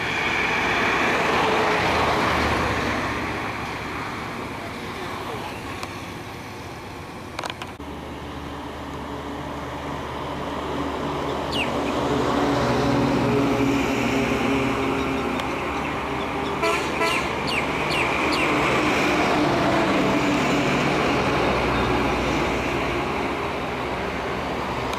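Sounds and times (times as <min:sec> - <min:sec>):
city road traffic: 0:00.0 - 0:24.9
vehicle engine drone: 0:00.0 - 0:24.9.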